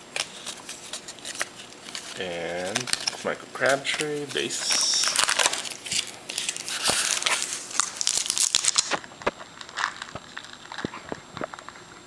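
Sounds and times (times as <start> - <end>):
wrapper crinkling and tearing: 0.2 - 11.8.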